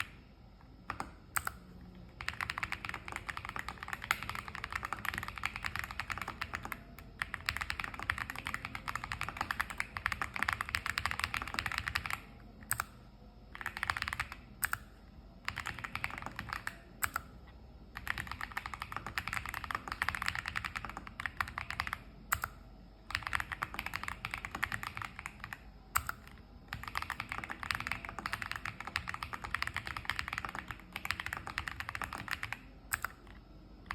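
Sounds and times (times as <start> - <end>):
clicky keyboard typing: 0.0 - 33.9.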